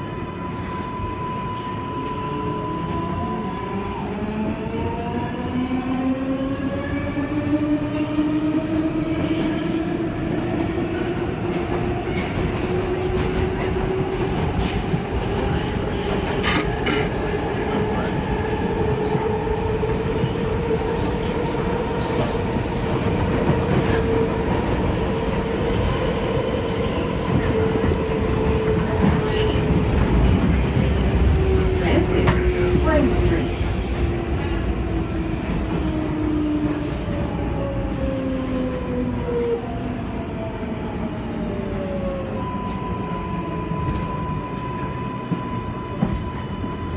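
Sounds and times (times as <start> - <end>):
rumble of wheels on rail: 0.0 - 46.9.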